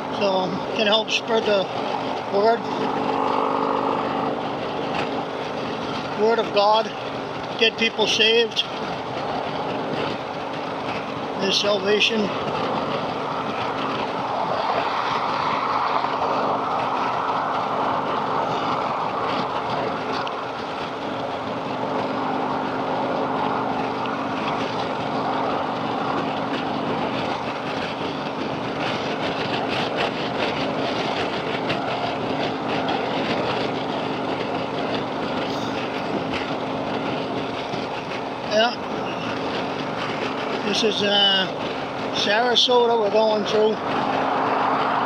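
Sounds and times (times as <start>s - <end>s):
motorcycle engine running: 0.0s - 45.0s
wind and road noise: 0.0s - 45.0s.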